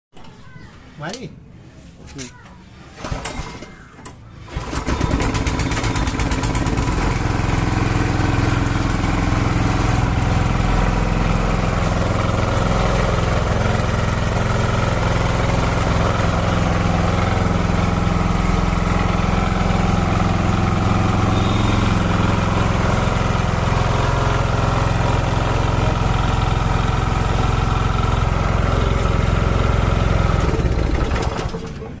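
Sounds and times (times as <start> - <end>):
water pump petrol engine running: 4.4 - 32.0.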